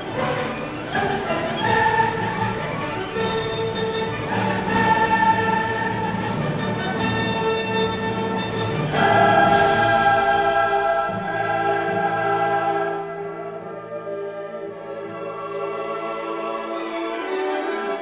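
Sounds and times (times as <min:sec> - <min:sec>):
choir singing held chords: 0:00.0 - 0:17.8
orchestra playing: 0:00.0 - 0:18.0.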